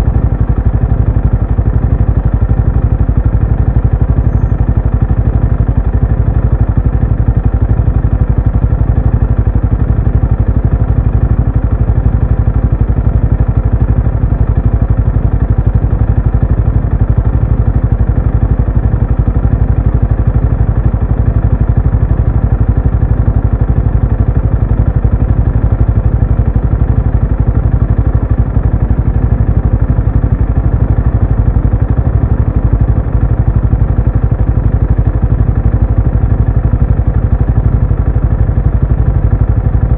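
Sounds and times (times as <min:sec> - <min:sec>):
motorcycle exhaust running steadily: 0:00.0 - 0:39.9.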